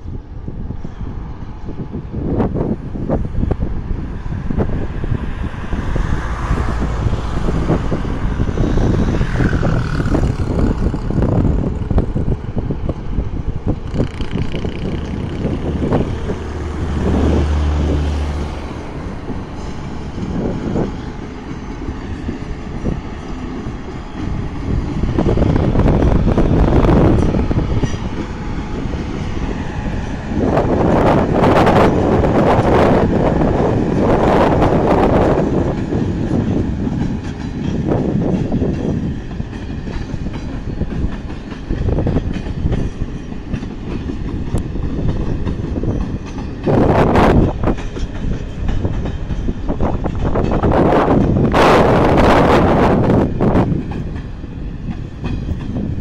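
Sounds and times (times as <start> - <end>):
electric train rumbling past: 0.0 - 56.0
wheels clattering on rails: 7.0 - 56.0.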